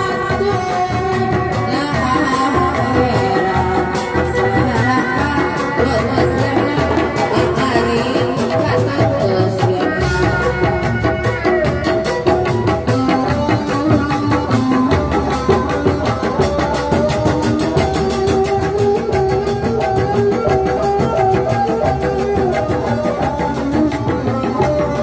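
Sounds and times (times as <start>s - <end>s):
hand drums fast beat: 0.0s - 25.0s.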